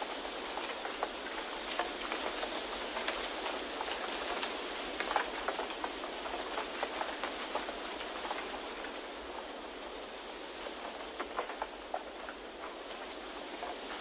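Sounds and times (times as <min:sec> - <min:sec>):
raindrops ticking: 0:00.0 - 0:14.0
wind and rain rushing: 0:00.0 - 0:14.0.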